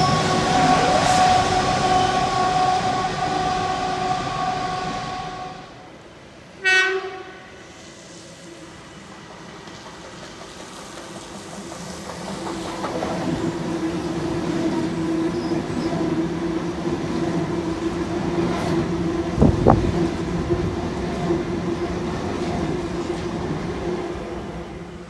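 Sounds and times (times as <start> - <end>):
electric train rumble and hum: 0.0 - 25.0.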